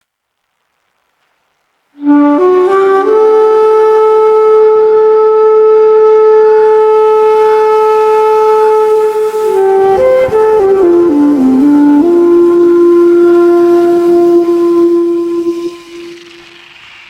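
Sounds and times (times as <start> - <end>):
breathy flute playing: 1.9 - 17.0.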